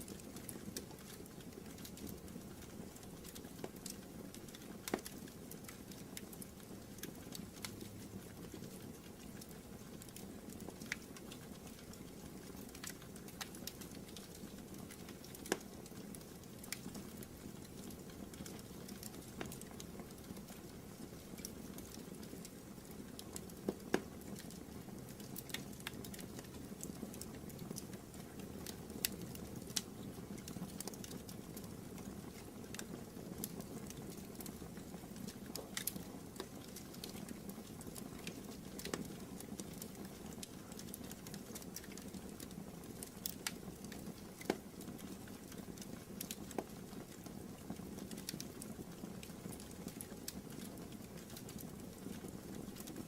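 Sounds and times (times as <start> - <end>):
fire crackles and pops: 0.0 - 53.0
wood fire burning: 0.0 - 53.0.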